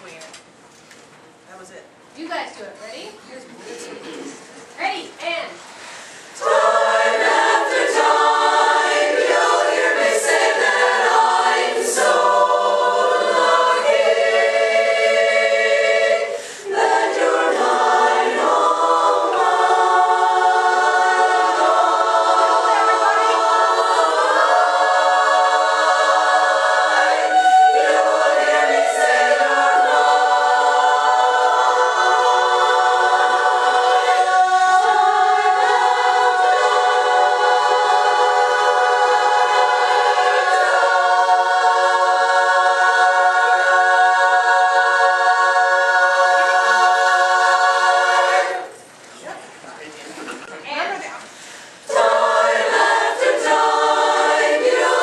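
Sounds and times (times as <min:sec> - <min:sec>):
women's chorus singing a cappella: 0:06.4 - 0:49.0, 0:51.8 - 0:55.0.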